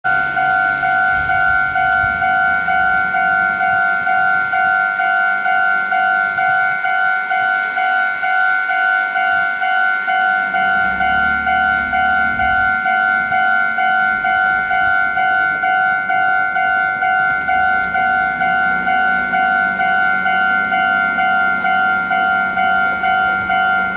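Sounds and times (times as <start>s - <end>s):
level-crossing alarm ringing: 0.0s - 23.9s.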